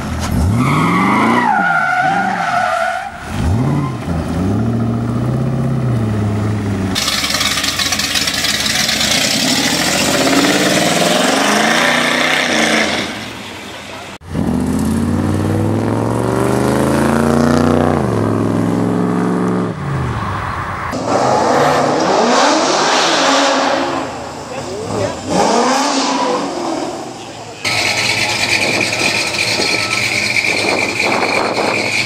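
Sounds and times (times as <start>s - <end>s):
car engines revving and accelerating: 0.0s - 32.0s.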